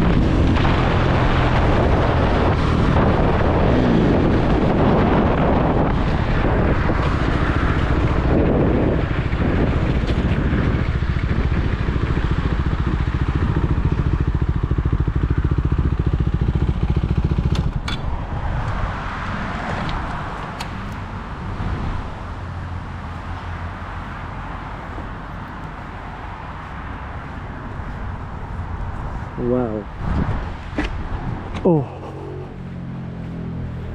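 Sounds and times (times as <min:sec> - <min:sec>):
motorcycle engine running: 0:00.0 - 0:18.2, 0:20.3 - 0:30.2, 0:31.7 - 0:33.9
wind noise on microphone: 0:00.0 - 0:33.9.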